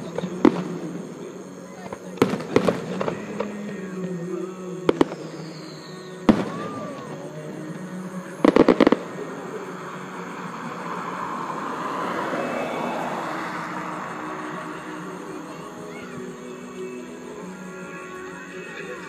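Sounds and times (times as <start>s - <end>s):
fireworks banging: 0.0s - 16.6s.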